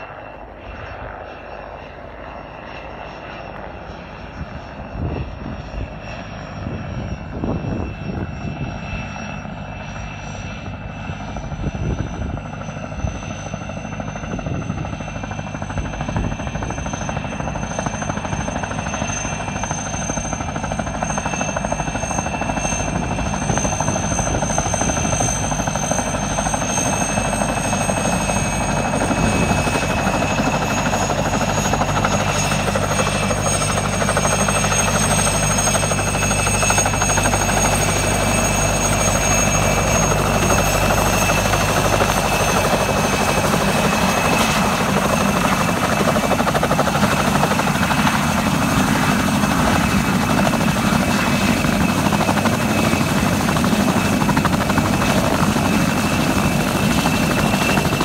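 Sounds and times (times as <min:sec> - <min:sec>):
helicopter rotor and turbine whine: 0:00.0 - 0:58.0.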